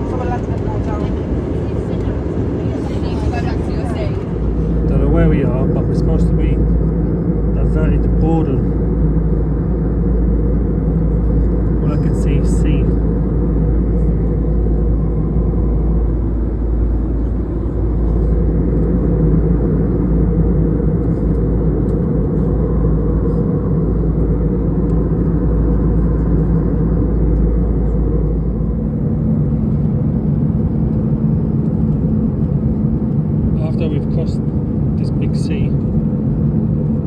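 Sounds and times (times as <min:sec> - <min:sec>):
airliner cabin rumble: 0:00.0 - 0:37.0
steady hum: 0:00.0 - 0:37.0.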